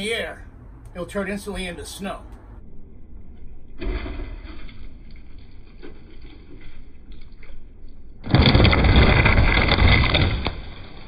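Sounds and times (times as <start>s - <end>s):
quiet outdoor background: 0.0s - 11.0s.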